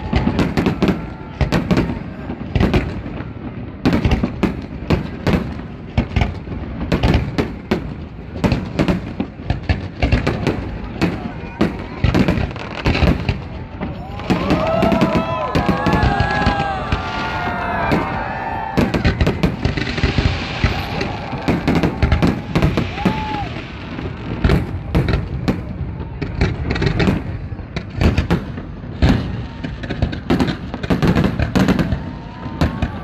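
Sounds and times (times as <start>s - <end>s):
fireworks bursting: 0.0s - 33.0s
fireworks crackling: 0.0s - 33.0s.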